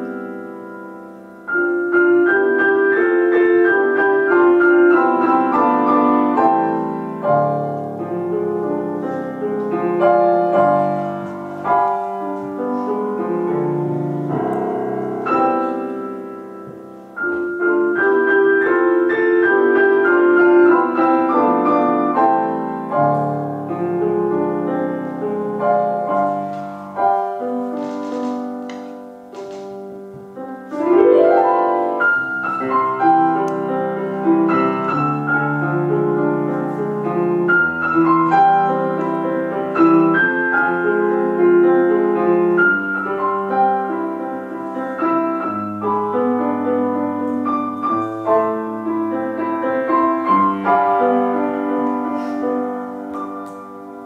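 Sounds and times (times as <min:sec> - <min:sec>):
solo grand piano: 0:00.0 - 0:54.0.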